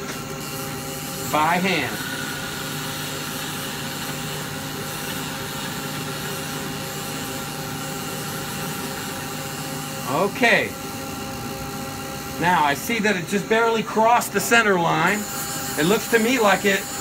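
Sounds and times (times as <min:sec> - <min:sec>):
lathe machine hum: 0:00.0 - 0:17.0.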